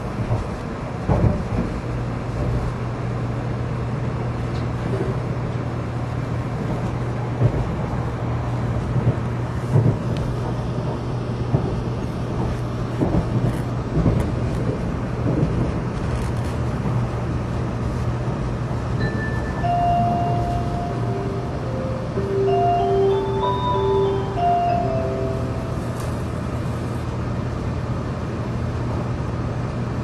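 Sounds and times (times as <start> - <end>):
train carriage running noise: 0.0 - 30.0.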